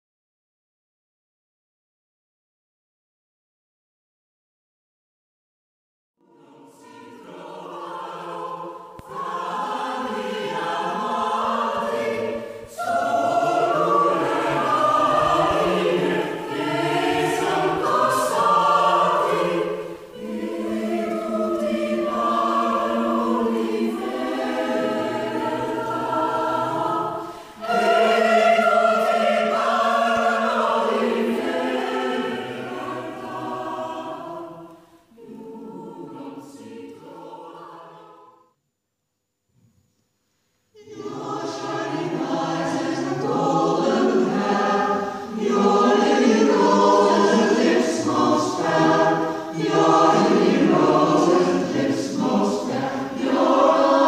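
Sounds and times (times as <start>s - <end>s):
mixed choir singing: 6.2s - 38.5s, 40.8s - 54.0s.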